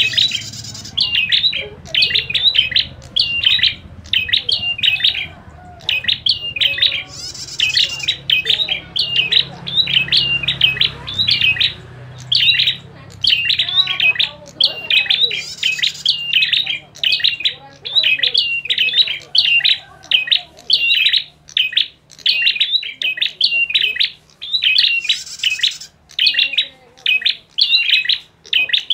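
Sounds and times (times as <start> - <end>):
birds chirping sharply: 0.0 - 28.9.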